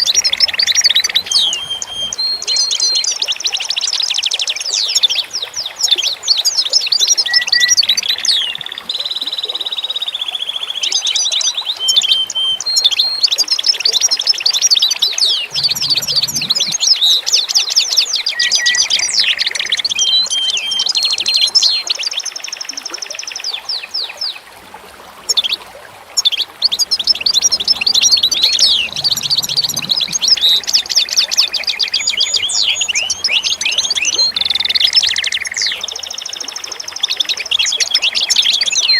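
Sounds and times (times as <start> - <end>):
whistled bird notes: 0.0 - 24.2, 26.2 - 38.9
songbirds singing: 0.0 - 24.5, 25.3 - 38.9.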